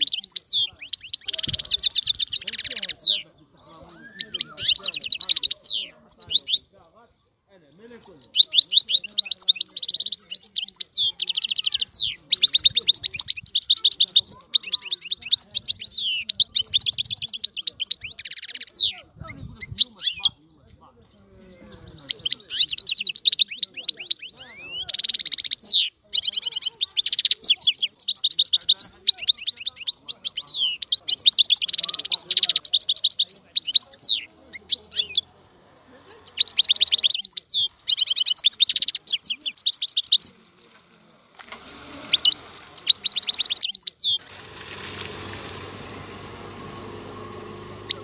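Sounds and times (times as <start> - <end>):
finch singing high twittering: 0.0 - 6.8, 7.9 - 20.4, 21.2 - 35.4, 36.0 - 48.0.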